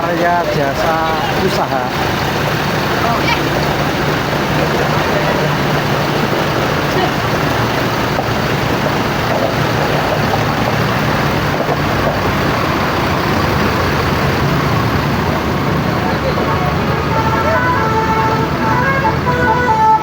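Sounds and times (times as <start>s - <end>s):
bus engines running: 0.0s - 20.0s
traffic noise: 0.0s - 20.0s
voices: 0.0s - 20.0s.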